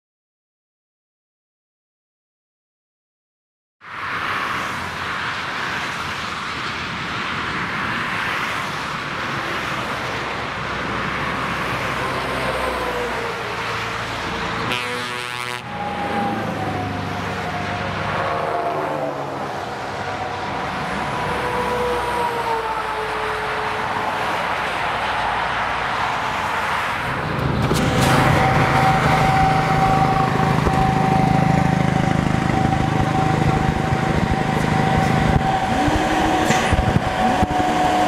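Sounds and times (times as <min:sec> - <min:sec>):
cars passing on motorway: 0:03.8 - 0:38.0
heavy trucks passing: 0:03.8 - 0:38.0.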